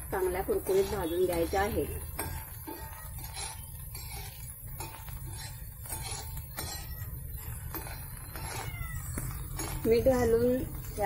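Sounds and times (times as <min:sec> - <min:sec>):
metal utensil scraping on a pan: 0:00.0 - 0:11.0.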